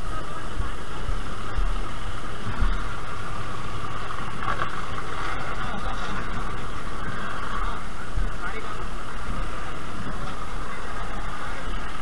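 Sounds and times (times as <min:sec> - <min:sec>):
low thumps: 0:00.0 - 0:11.2
vehicle engine idling: 0:00.0 - 0:12.0.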